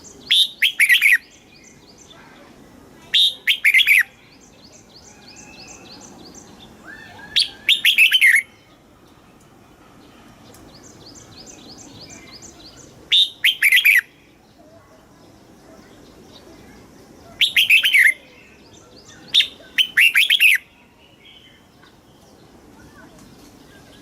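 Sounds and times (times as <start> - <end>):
bird singing warbling phrases: 0.0 - 9.2, 10.0 - 24.0
faint high chirps: 0.0 - 24.0.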